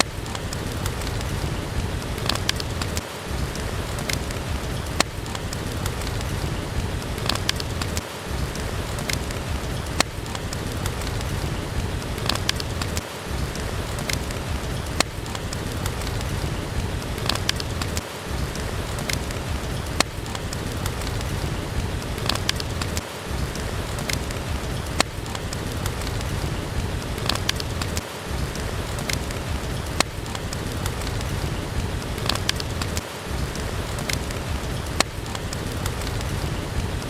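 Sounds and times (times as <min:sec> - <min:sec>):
steady rain: 0:00.0 - 0:37.0
wood fire crackling: 0:00.0 - 0:37.0.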